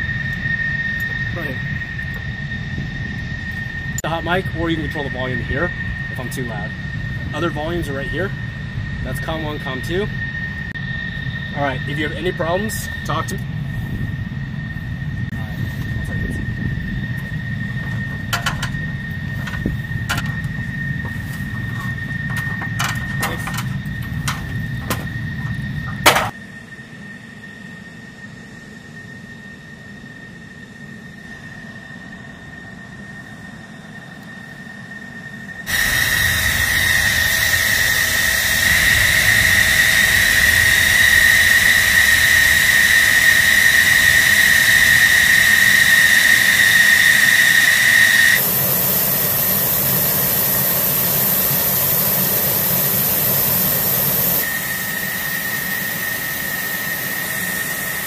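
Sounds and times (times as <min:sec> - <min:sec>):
jet engine high-pitched whine: 0:00.0 - 0:58.0.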